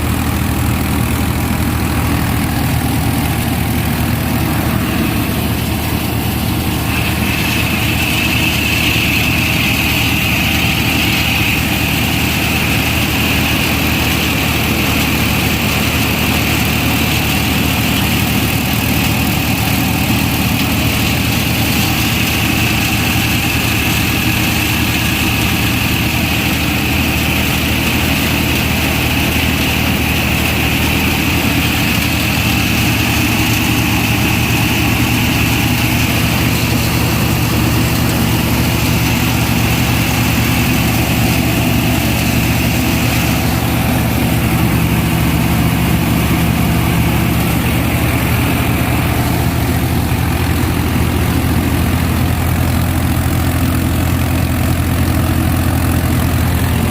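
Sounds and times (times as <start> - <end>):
harvester high whine: 0.0 - 56.9
tractor engine hum: 0.0 - 56.9.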